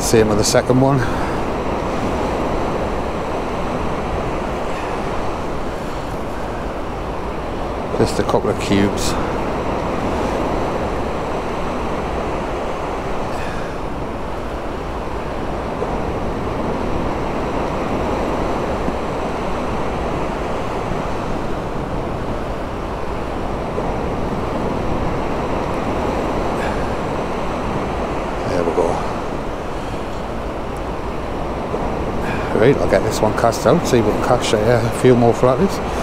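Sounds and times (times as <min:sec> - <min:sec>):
surf breaking on beach: 0:00.0 - 0:36.0
wind buffeting microphone: 0:00.0 - 0:36.0.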